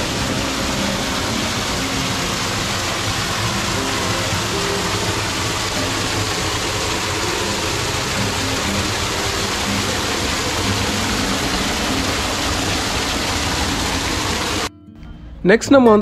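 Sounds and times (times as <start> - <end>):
waterfall splashing into pond: 0.0 - 14.7.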